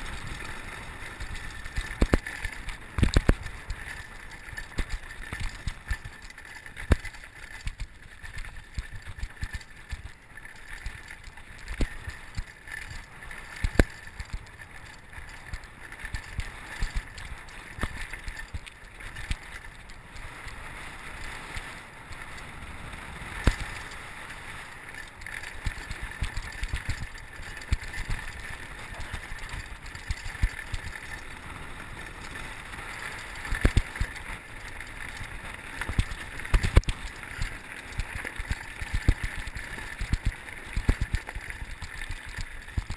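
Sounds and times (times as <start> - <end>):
bike knocks and rattles: 0.0 - 20.3, 23.2 - 24.0, 24.9 - 42.9.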